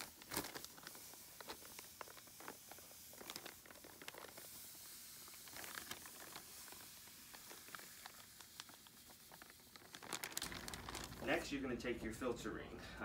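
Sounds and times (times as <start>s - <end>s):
sand pouring into bucket: 0.0s - 11.8s
plastic bag crinkling: 0.0s - 12.7s.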